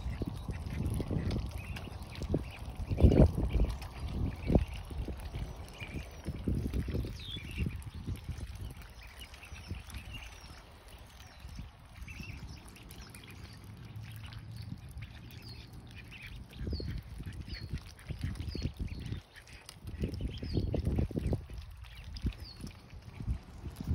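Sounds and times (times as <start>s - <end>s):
ducklings peeping: 0.0s - 23.9s.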